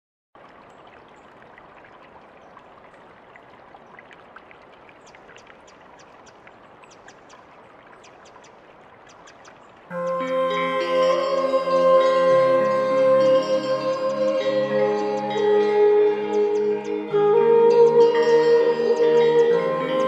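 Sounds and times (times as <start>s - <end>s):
running water: 0.4s - 20.0s.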